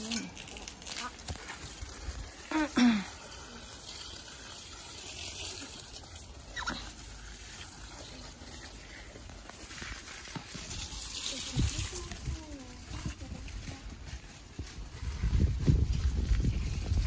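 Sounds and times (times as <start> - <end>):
garden hose spraying water: 0.0 - 17.0.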